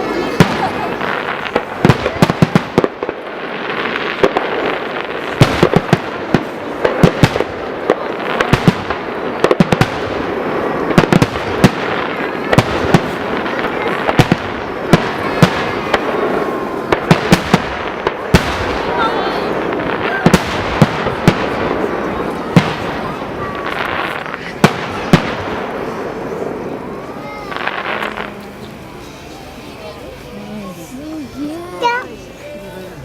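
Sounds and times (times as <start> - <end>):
fireworks bangs: 0.0 - 30.1.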